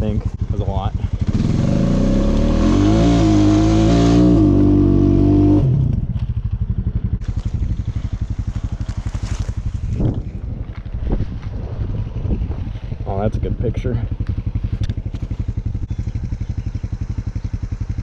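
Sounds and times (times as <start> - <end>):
atv engine revving and idling: 0.0 - 18.0.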